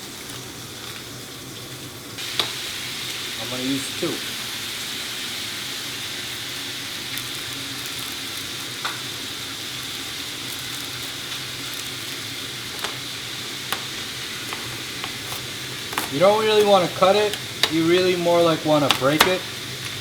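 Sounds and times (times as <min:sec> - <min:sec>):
food sizzling in frying pan: 0:00.0 - 0:20.0.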